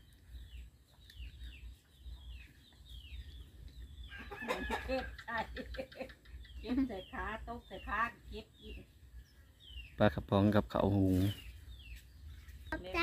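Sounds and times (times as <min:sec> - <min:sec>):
chickens calling: 0:00.0 - 0:13.0
chickens clucking: 0:00.0 - 0:13.0.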